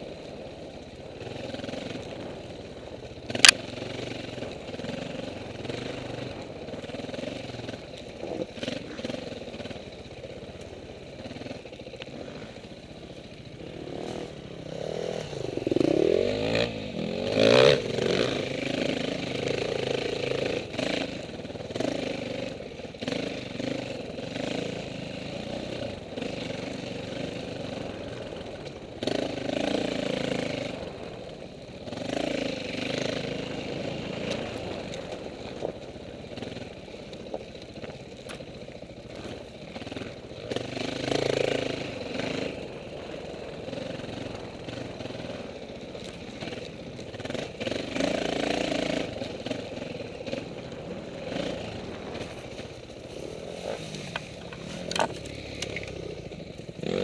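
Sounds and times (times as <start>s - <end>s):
dirt bike engine at low revs: 0.0s - 57.0s.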